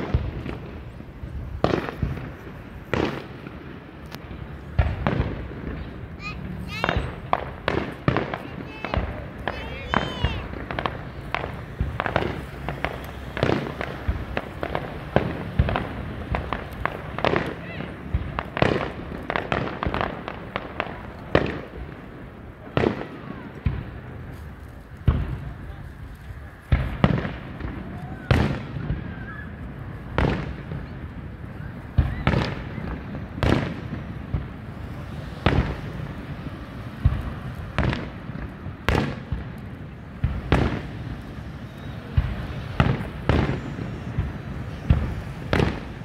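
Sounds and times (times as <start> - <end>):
distant firework booms: 0.0 - 25.8, 26.6 - 46.0.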